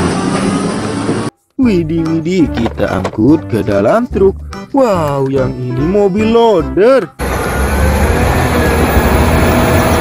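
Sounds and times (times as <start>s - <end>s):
wheel loader diesel engine rumbling: 0.0s - 10.0s.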